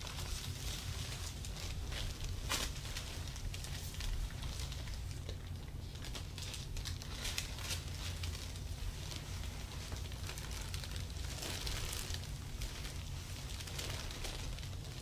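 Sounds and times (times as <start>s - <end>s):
rustling of cloth: 0.0s - 15.0s.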